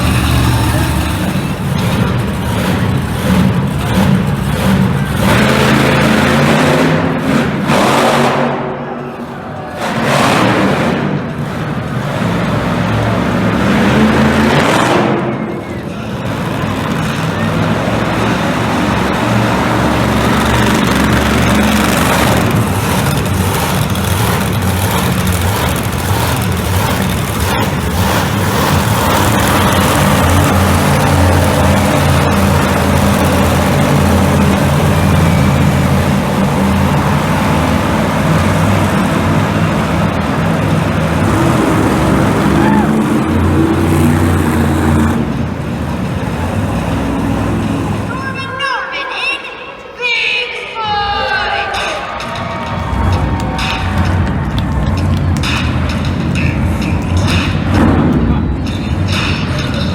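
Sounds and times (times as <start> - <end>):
truck engine revving: 0.0 - 48.5, 51.8 - 59.9.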